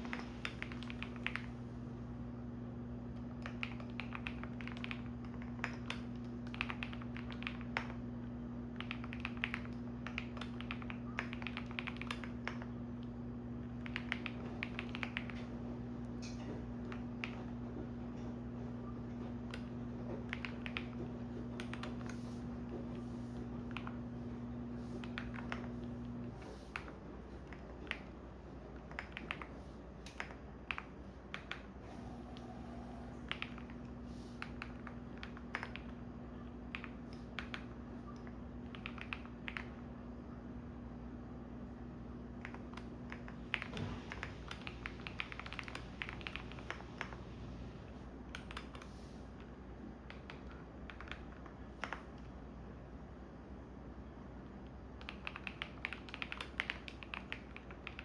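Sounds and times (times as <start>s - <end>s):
keyboard typing: 0.0s - 1.7s, 3.1s - 40.0s, 42.2s - 52.4s, 54.7s - 58.0s
washing machine motor hum: 0.0s - 55.1s.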